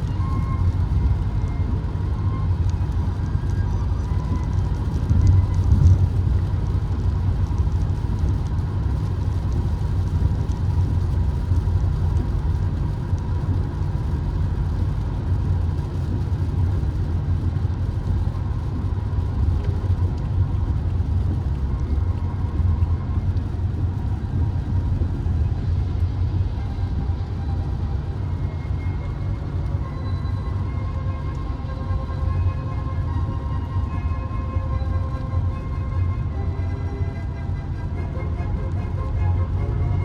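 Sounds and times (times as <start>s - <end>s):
road and engine rumble: 0.0s - 40.0s.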